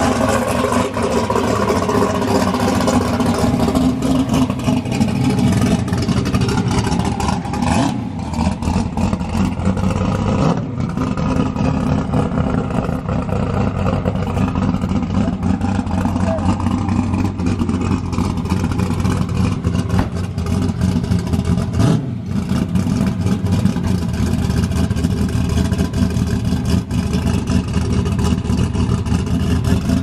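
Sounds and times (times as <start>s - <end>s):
race car engine running loudly: 0.0s - 30.0s.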